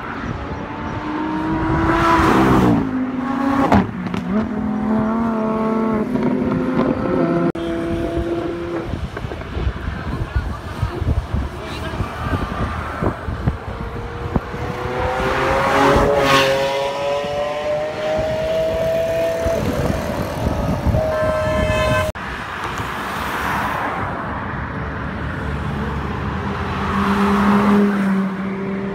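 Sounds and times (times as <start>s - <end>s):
road and wind noise: 0.0s - 28.9s.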